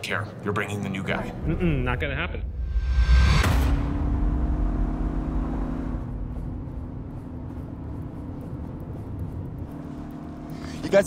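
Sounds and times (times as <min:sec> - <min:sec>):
car engine and road rumble: 0:01.1 - 0:11.0.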